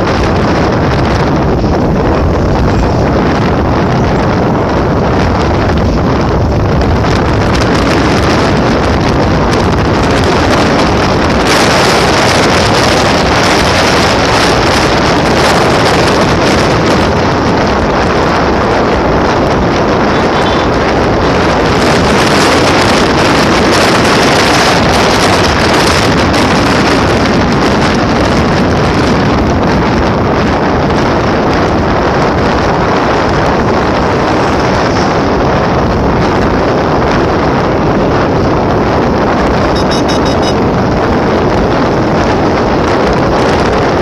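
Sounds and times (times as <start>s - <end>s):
motorcycle engine and road noise: 0.0s - 44.0s
wind roaring over microphone: 0.0s - 44.0s.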